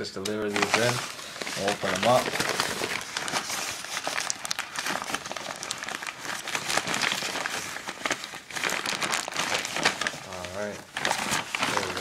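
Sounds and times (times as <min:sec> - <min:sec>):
plastic mailer crinkling: 0:00.2 - 0:12.0.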